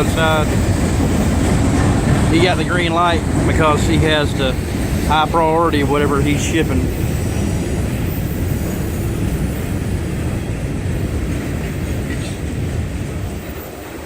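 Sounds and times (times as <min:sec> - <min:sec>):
freight train cars rumbling past: 0:00.0 - 0:14.0.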